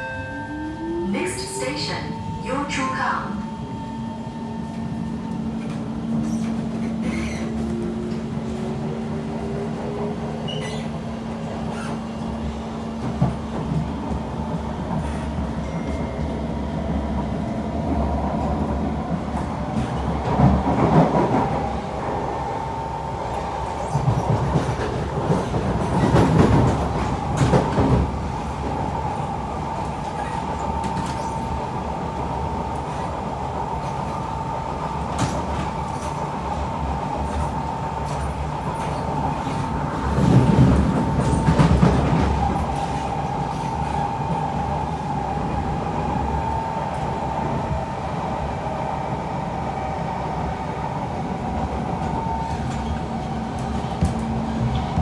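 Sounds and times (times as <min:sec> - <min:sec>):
train rolling noise: 0:00.0 - 0:55.0.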